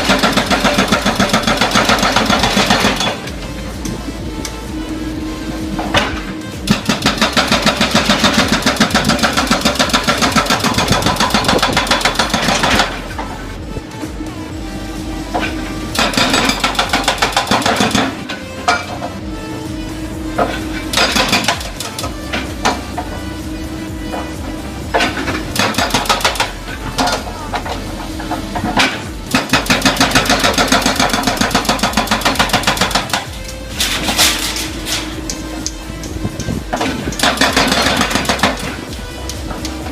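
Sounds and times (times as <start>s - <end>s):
hydraulic hammer breaker pounding: 0.0s - 4.9s, 5.6s - 13.4s, 15.2s - 19.2s, 19.9s - 39.9s
excavator engine hum: 0.0s - 39.9s.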